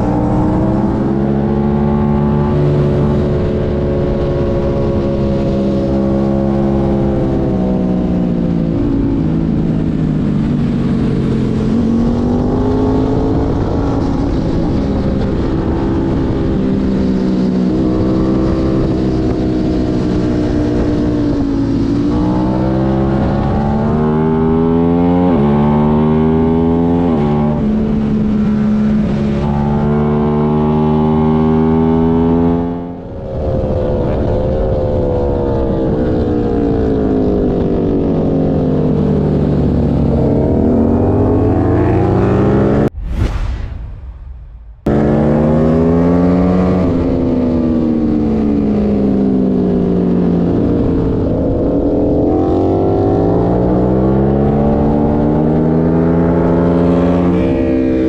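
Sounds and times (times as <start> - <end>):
wind rush: 0.0 - 30.0, 30.6 - 58.0
motorcycle engine revving: 0.0 - 43.0, 44.8 - 58.0.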